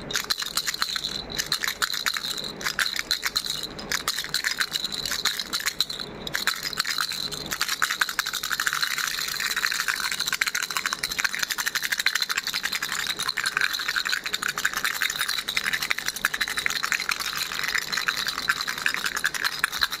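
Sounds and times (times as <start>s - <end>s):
baby rattle shaking: 0.0s - 20.0s.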